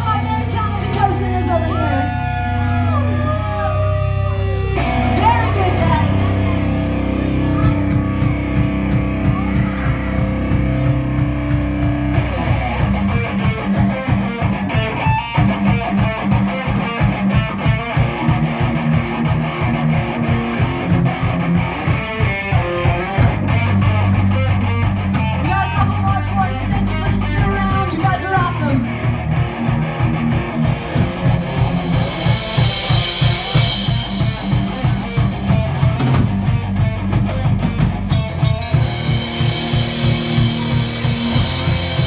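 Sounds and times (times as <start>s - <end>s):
distorted electric guitar: 0.0s - 42.0s
drums: 0.0s - 42.0s.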